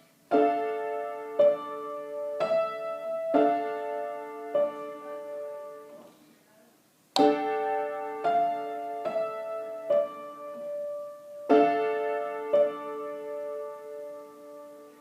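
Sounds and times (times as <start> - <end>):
piano chords ringing: 0.0 - 6.1, 7.2 - 15.0.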